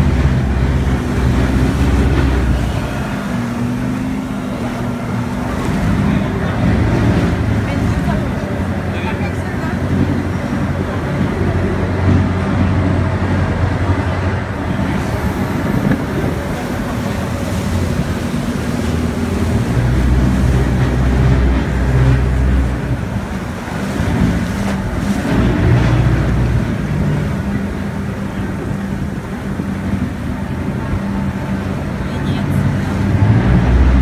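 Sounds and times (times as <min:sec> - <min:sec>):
boat engine humming: 0:00.0 - 0:34.0
churning wake rushing: 0:00.0 - 0:34.0
wind buffeting microphone: 0:00.0 - 0:34.0.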